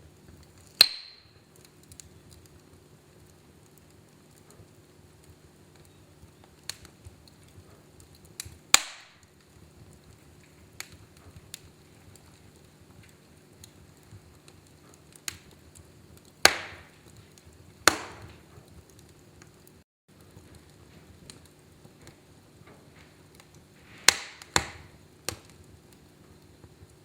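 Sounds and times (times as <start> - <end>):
wood fire crackling: 0.0 - 27.0
loud sharp pops of fire: 0.2 - 27.0.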